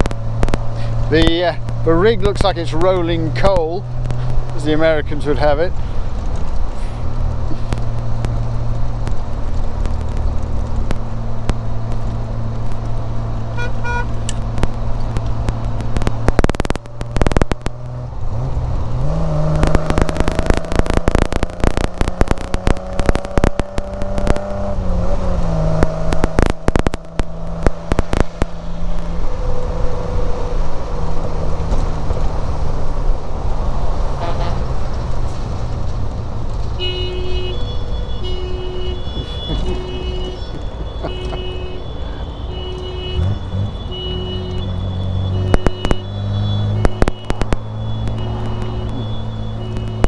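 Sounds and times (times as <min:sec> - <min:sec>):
car engine running: 0:00.0 - 0:29.2, 0:35.3 - 0:50.0.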